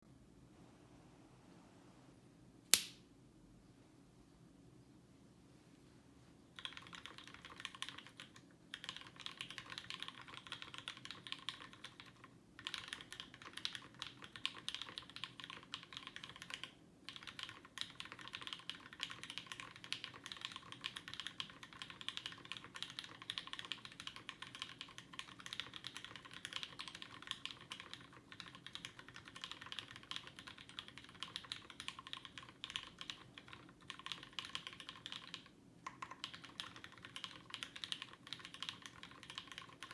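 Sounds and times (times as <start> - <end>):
mechanical keyboard typing: 6.6 - 39.9.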